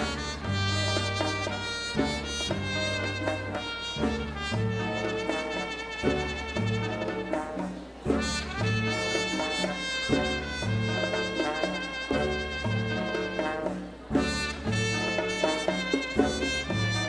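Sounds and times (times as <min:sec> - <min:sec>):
bass line: 0:00.0 - 0:17.0
latin dance band playing: 0:00.0 - 0:17.0
trumpets and brass melody: 0:00.0 - 0:17.0.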